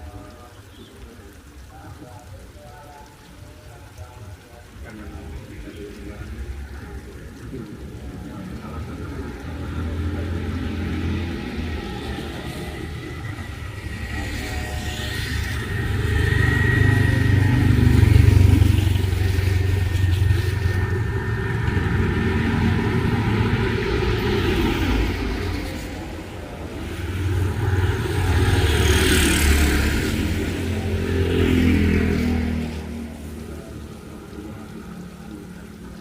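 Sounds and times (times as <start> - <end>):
rain hiss: 0.0 - 36.0
motorbike engines passing: 4.9 - 36.0.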